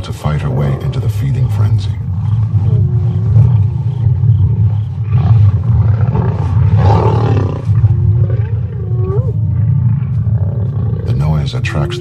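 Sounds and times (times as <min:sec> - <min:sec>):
lions growling and snarling: 0:00.0 - 0:12.0.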